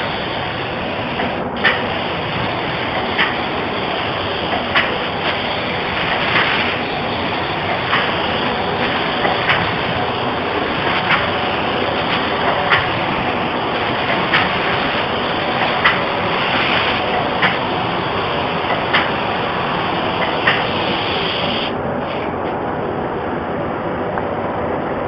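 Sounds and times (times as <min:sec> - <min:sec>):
spray gun hissing: 0:00.0 - 0:22.2.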